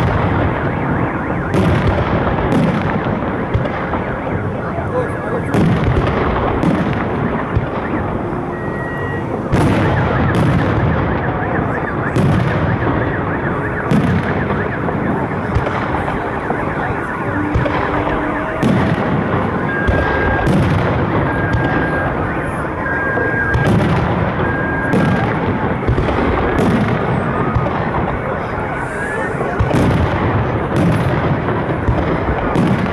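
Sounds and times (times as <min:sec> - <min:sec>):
fireworks bangs and crackle: 0:00.0 - 0:32.9.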